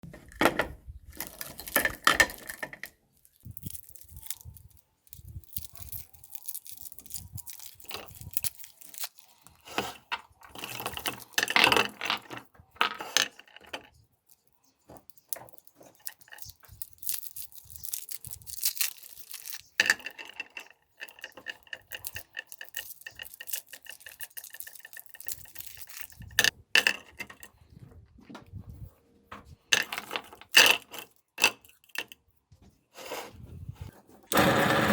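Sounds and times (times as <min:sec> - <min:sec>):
clinking and clattering handling: 0:00.4 - 0:32.3.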